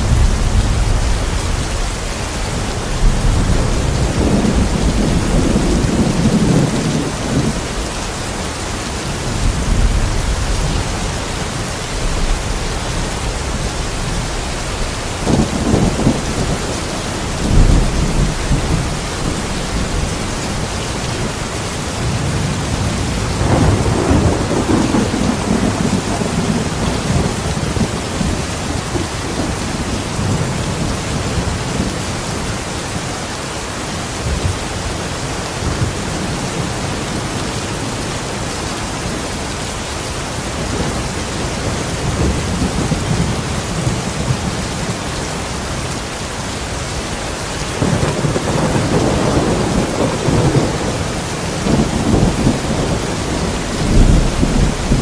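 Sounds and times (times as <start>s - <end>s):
thunder rumbling: 0.0s - 33.0s, 33.8s - 39.9s, 40.5s - 46.8s, 47.5s - 55.0s
heavy rain: 0.0s - 55.0s.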